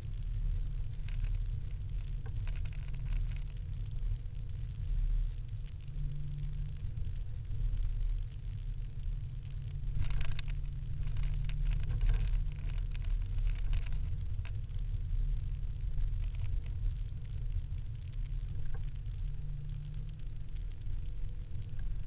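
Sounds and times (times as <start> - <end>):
car driving rumble inside cabin: 0.0 - 22.0.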